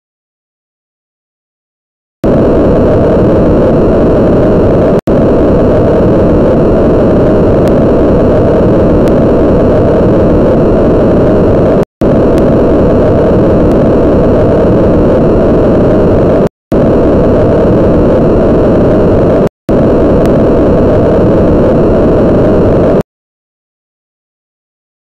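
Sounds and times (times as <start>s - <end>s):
loud steady rushing noise: 2.2s - 23.0s.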